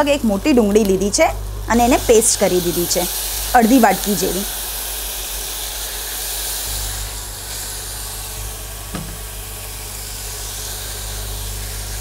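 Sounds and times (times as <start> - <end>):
paste sizzling in hot oil: 0.5 - 12.0.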